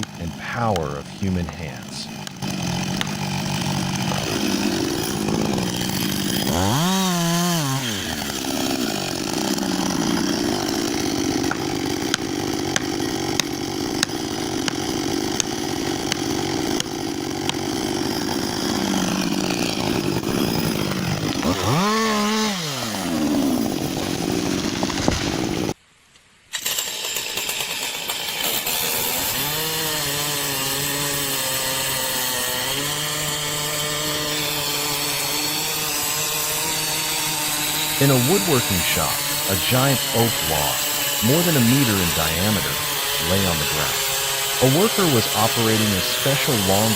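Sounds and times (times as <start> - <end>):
chainsaw cutting wood: 0.0 - 25.8, 26.5 - 46.9.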